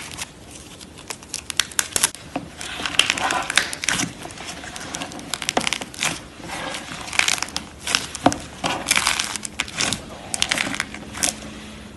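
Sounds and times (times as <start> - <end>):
slime crinkling and crackling: 0.0 - 11.8.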